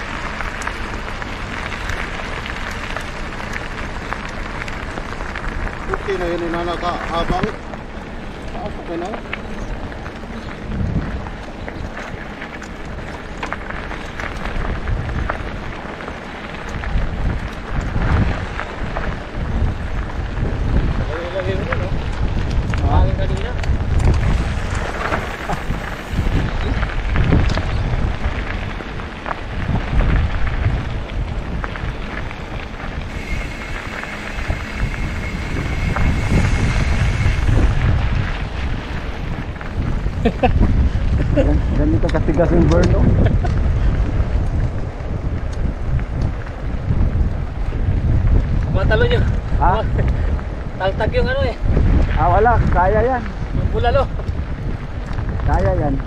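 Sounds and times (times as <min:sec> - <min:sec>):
bicycle tyres on dirt track: 0:00.0 - 0:56.0
wind buffeting microphone: 0:00.0 - 0:56.0.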